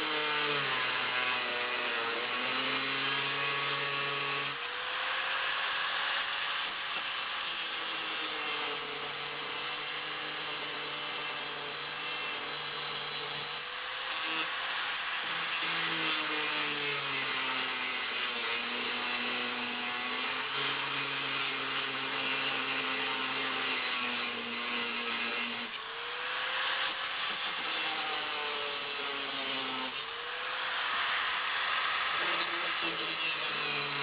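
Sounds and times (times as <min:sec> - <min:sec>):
angle grinder cutting steel: 0:00.0 - 0:34.0.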